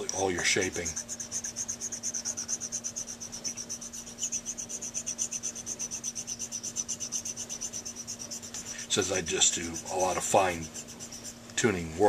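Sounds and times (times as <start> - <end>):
file rasping on mouthpiece: 0.6 - 11.4.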